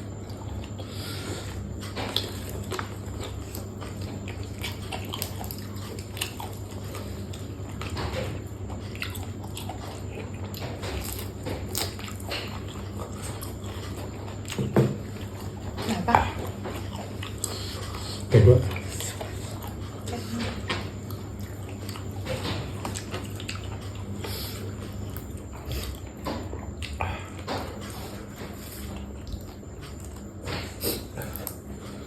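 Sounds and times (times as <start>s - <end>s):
chewing and crisp crunches: 0.0s - 32.0s.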